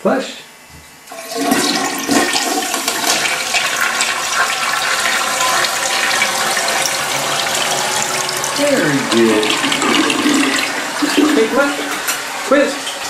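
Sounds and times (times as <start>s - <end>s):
toilet flushing: 1.0s - 13.0s.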